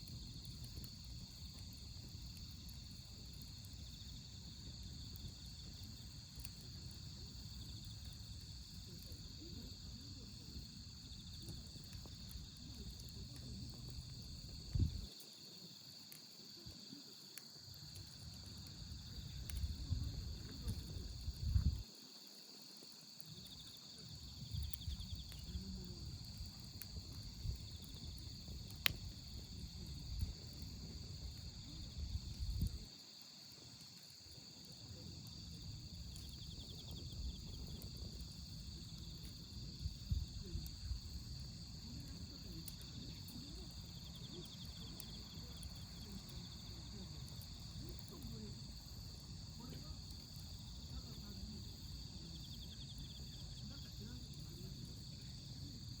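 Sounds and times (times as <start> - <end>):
crickets chirping: 0.0 - 56.0
wood fire crackling: 0.0 - 56.0.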